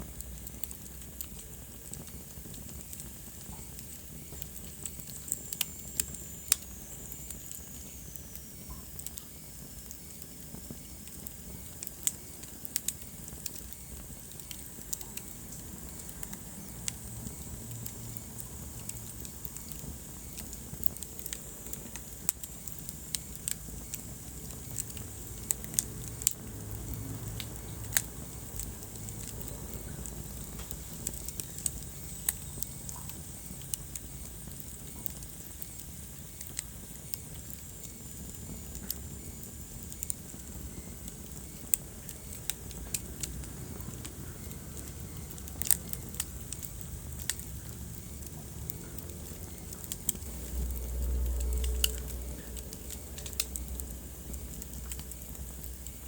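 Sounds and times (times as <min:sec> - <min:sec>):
fire pops and snaps: 0:00.0 - 0:56.0
low rumble of flames: 0:00.0 - 0:56.0
wood fire crackling: 0:00.0 - 0:56.0.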